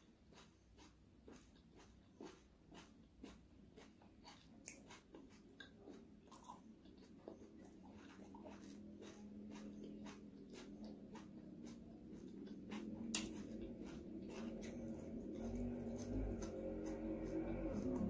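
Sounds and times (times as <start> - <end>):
low steady hum: 0.0 - 18.0
person chewing food: 0.0 - 18.0.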